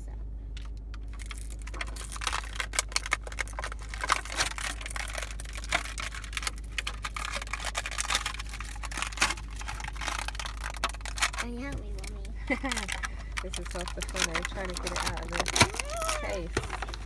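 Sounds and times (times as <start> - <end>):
plastic packaging crackling: 0.6 - 17.0.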